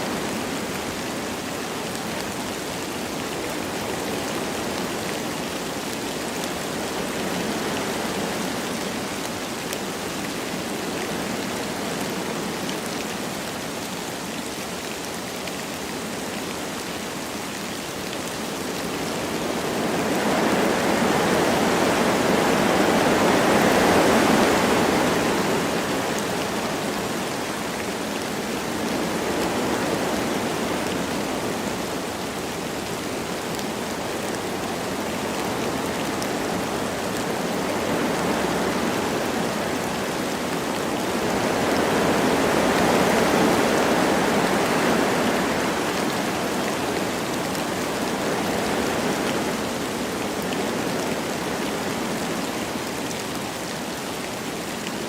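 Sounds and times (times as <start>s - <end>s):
light rain falling: 0.0s - 55.0s
wind through trees: 0.0s - 55.0s.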